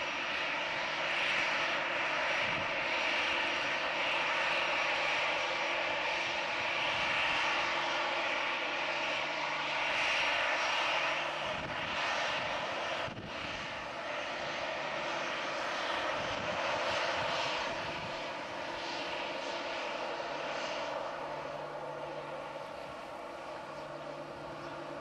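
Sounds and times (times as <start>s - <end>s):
jet engine whine: 0.0s - 25.0s.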